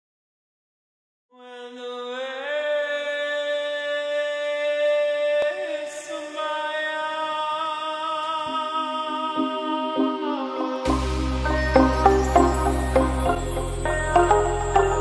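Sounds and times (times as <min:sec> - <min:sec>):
slow ambient chant-like music: 0:01.4 - 0:15.0.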